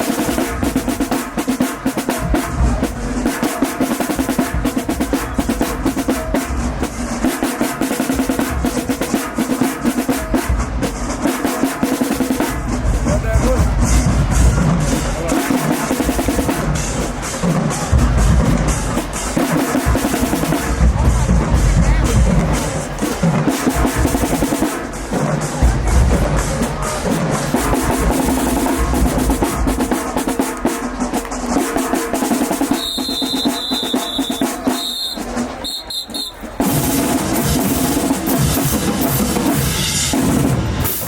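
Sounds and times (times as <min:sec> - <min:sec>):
pounding bass drums: 0:00.0 - 0:41.0
snare drum rolls: 0:00.0 - 0:41.0.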